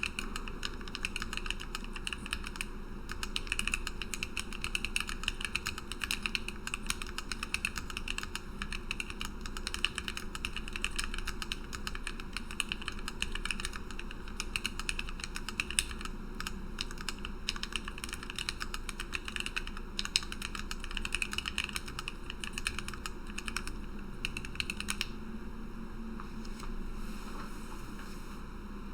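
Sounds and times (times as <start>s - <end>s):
fast mechanical keyboard typing: 0.0s - 25.1s.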